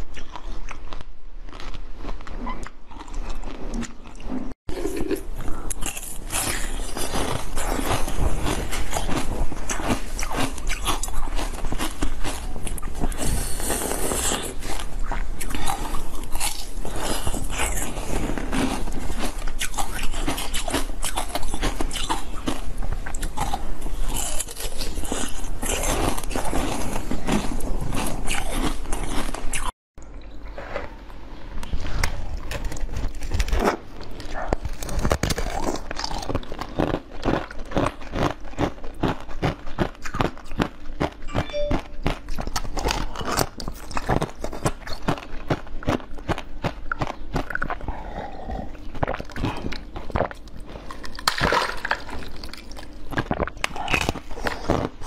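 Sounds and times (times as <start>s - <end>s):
biting and chewing jelly: 0.0s - 55.0s.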